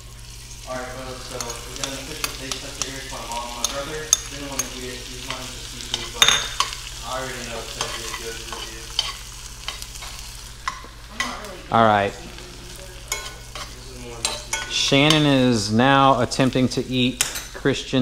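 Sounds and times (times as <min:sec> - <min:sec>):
vegetables sizzling in butter: 0:00.0 - 0:18.0.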